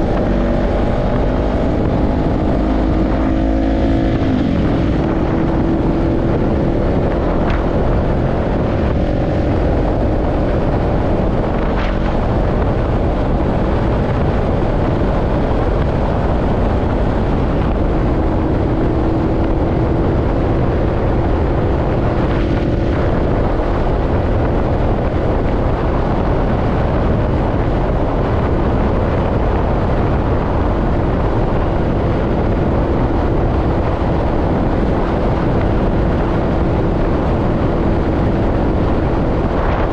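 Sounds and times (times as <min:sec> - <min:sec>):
motorcycle engine cruising: 0:00.0 - 0:39.9
wind and road rush: 0:00.0 - 0:39.9.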